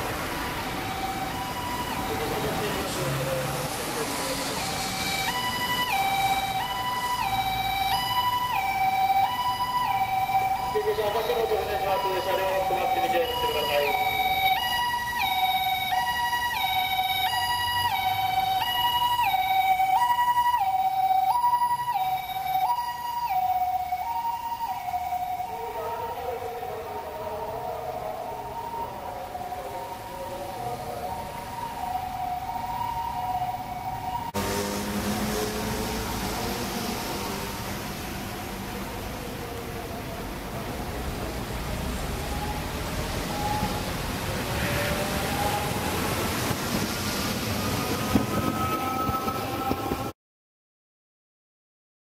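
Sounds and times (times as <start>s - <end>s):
streetcar rumbling on wet track: 0.0s - 20.1s, 24.0s - 50.1s
ambulance siren two-tone: 0.3s - 40.3s, 42.2s - 50.1s.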